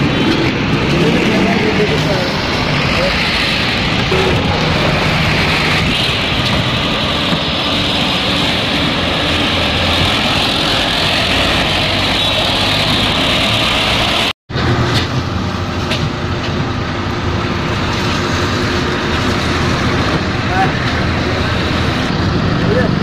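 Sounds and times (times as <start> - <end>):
road traffic engine noise: 0.0 - 23.0.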